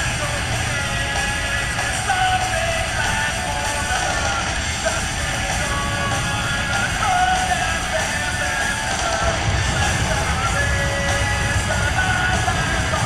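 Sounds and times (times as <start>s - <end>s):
rock song with singing: 0.0s - 13.0s.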